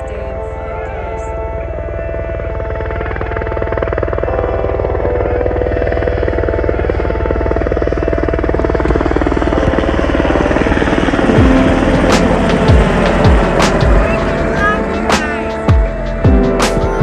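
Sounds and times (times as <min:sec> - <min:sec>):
helicopter rotors beating: 0:00.0 - 0:17.0.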